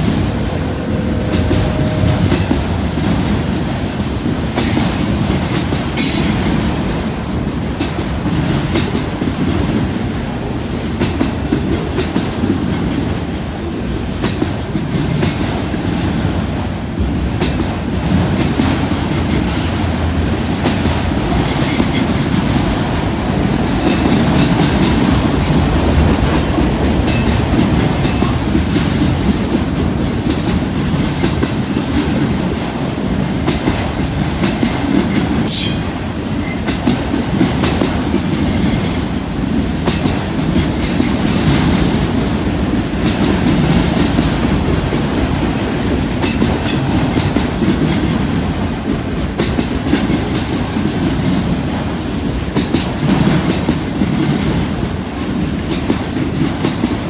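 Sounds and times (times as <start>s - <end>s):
freight cars rumbling on rails: 0.0s - 57.0s.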